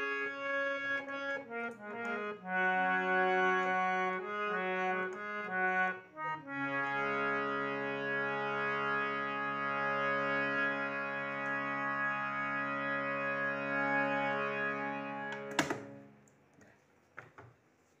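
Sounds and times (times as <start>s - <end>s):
harmonium playing: 0.0s - 16.2s.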